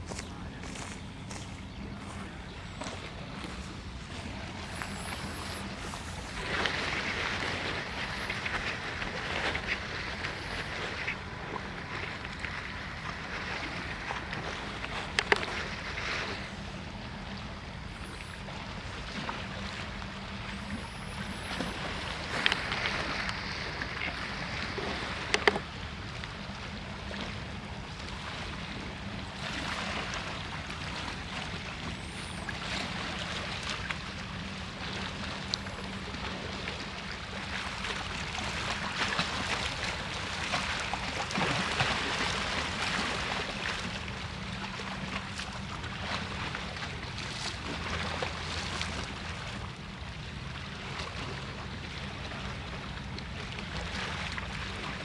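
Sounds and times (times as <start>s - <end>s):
low hum: 0.0s - 50.8s.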